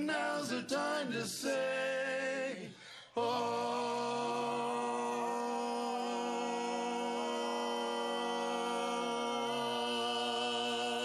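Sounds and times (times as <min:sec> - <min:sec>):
male quartet singing a cappella: 0:00.0 - 0:11.0.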